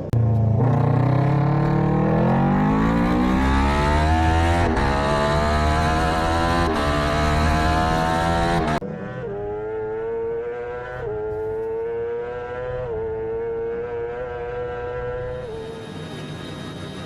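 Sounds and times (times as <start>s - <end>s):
motorcycle engine accelerating: 0.0s - 15.8s.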